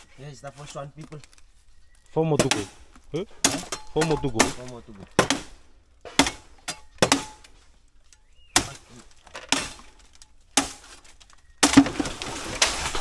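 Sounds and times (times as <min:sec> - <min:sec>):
crackling and rustling: 0:00.0 - 0:13.0
bamboo chopping cracks: 0:02.4 - 0:13.0.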